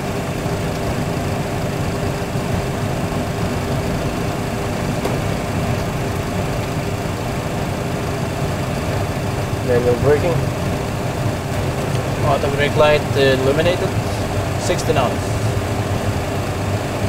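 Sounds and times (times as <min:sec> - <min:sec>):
simulated engine and runway rumble: 0:00.0 - 0:17.0.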